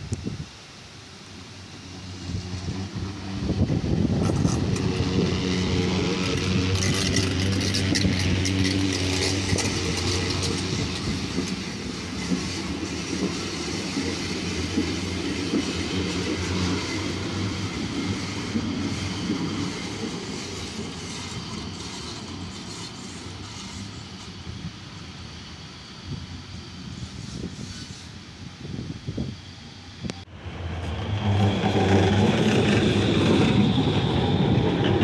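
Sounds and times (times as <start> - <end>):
tram humming past: 0.8 - 35.0
tram wheels clicking: 1.9 - 28.2, 29.8 - 35.0.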